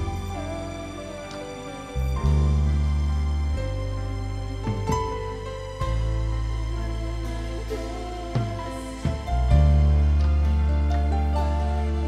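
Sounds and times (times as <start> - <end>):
bass note plucked: 0.0 - 12.0
sustained electric bass notes: 0.0 - 12.0.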